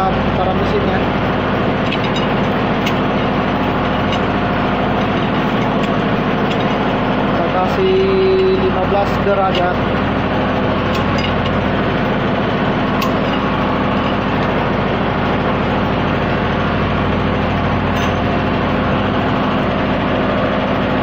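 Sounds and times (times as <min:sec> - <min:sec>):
heavy engine idling: 0:00.0 - 0:21.0.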